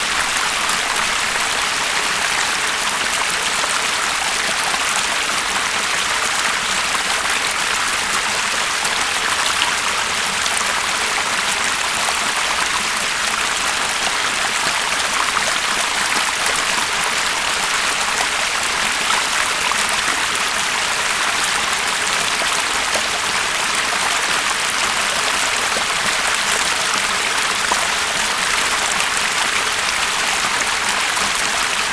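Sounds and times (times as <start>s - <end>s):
water stream flowing: 0.0s - 31.9s.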